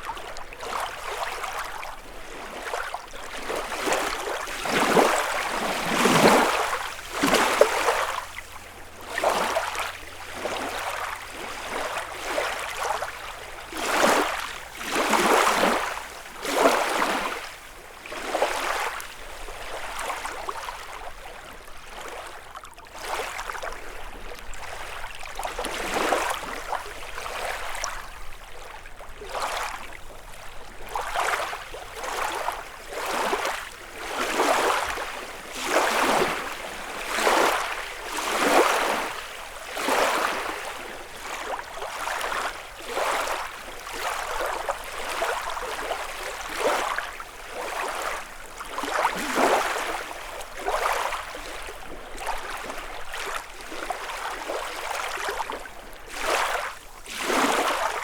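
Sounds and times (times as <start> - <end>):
lake waves washing on shore: 0.0 - 58.0.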